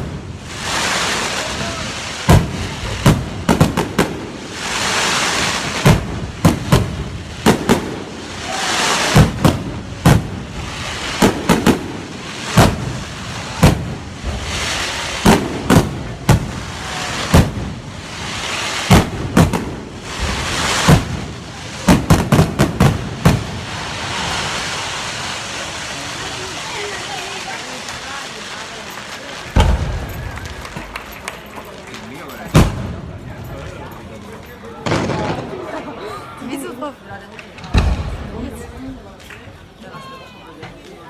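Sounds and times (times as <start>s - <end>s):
firework shells bursting with bangs: 0.0s - 34.0s, 37.4s - 38.6s
hissing crackle of fireworks: 0.0s - 41.0s.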